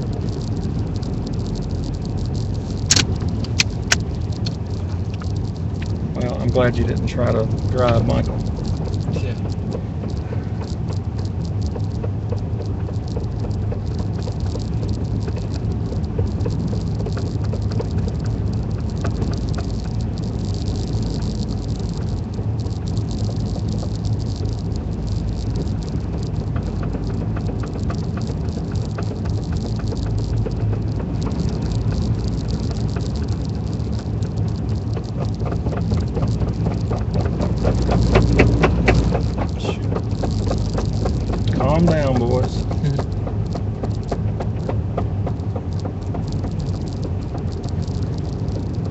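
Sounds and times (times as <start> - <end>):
road noise inside vehicle on snow: 0.0 - 48.9.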